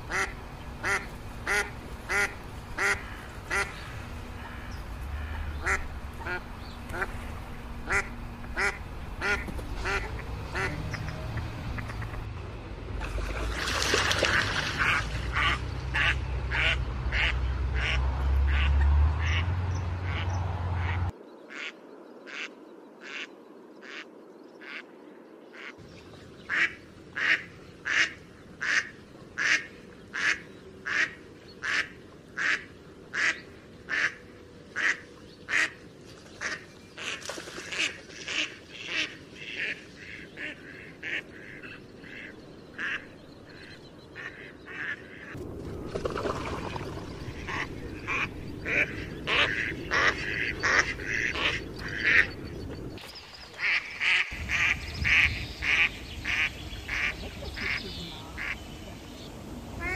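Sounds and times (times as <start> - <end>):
rushing background noise: 0.0 - 59.9
ducks quacking: 0.1 - 7.2, 7.8 - 12.3, 14.2 - 24.9, 26.5 - 35.8, 36.4 - 45.4, 47.2 - 52.5, 53.5 - 59.0.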